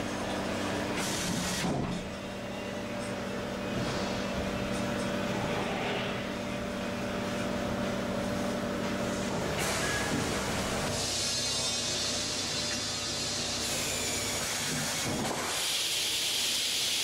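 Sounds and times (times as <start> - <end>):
blast cabinet motor hum: 0.0 - 17.0.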